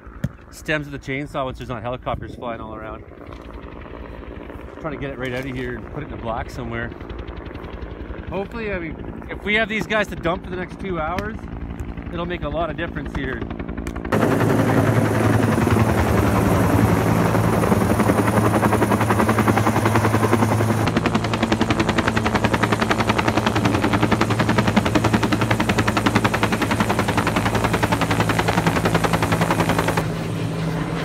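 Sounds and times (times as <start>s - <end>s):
helicopter rotor beating: 0.0s - 31.0s.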